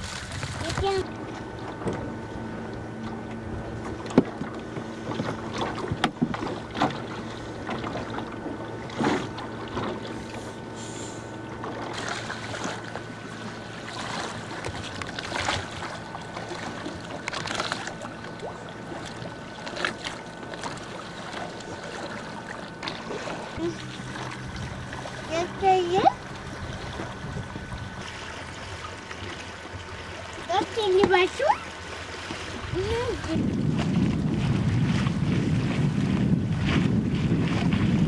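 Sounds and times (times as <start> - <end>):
steady low hum: 0.0 - 38.0
water splashing against hull: 0.0 - 38.0.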